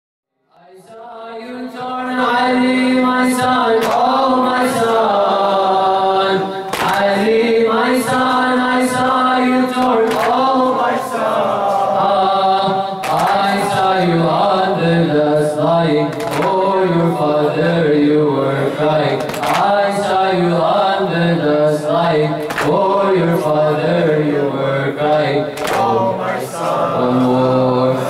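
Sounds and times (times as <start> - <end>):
voices chanting a lament: 0.5 - 28.0.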